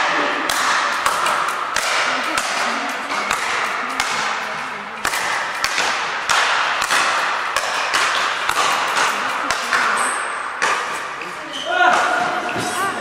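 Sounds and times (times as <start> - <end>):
rackets striking tethered ball: 0.0 - 13.0.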